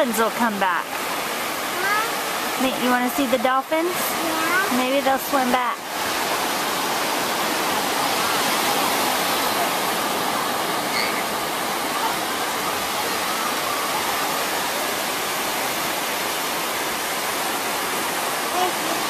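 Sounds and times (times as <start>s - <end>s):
ocean surf washing onto beach: 0.0s - 19.0s.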